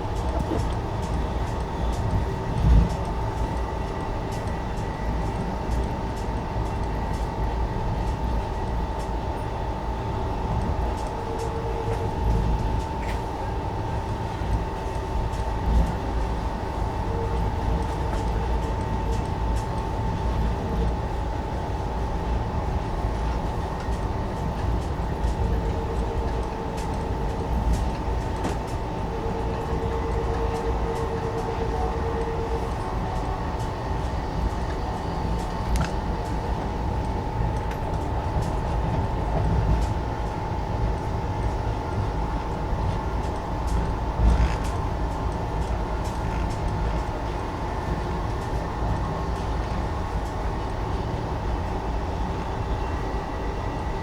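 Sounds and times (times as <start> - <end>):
constant hum: 0.0 - 54.0
train wheels rumbling on track: 0.0 - 54.0.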